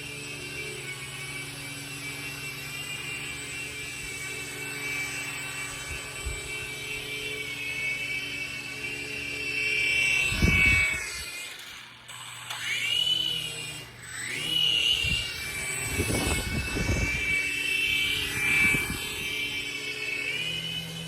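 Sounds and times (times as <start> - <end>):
low hum: 0.0 - 21.0
toy drone motors whining: 0.0 - 21.0.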